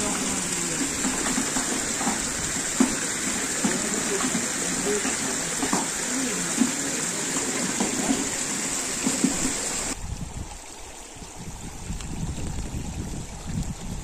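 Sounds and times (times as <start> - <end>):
shallow stream flowing over rocks: 0.0 - 14.0
water rushing: 0.0 - 14.0.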